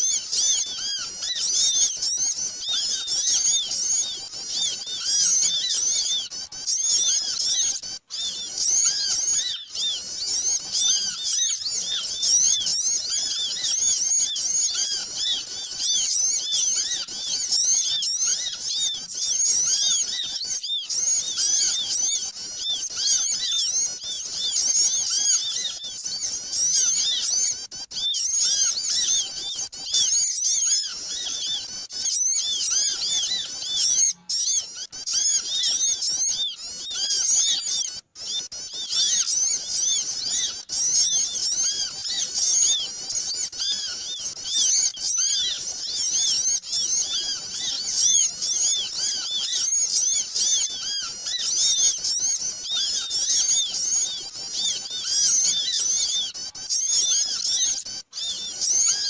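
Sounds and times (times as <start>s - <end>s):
small birds chattering: 0.0s - 59.0s.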